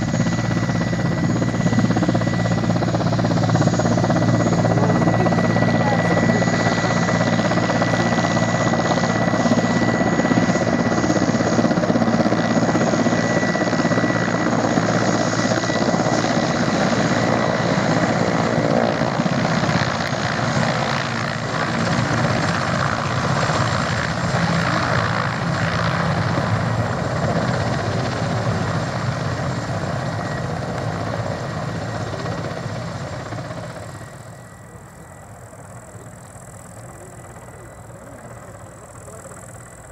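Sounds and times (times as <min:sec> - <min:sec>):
helicopter engines whining: 0:00.0 - 0:39.9
helicopter rotor throbbing: 0:00.0 - 0:39.9.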